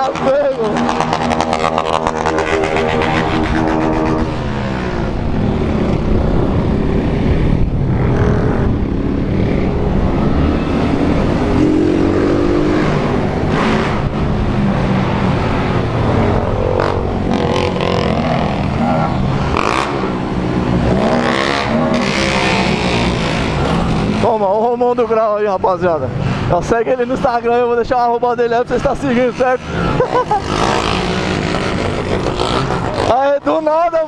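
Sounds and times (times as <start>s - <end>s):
motorcycle engines revving: 0.0s - 34.0s
steady rushing noise: 0.0s - 34.0s.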